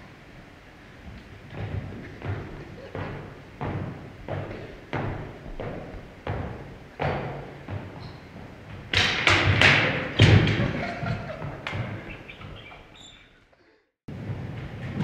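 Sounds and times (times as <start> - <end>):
agility ladder clattering: 1.0 - 13.2.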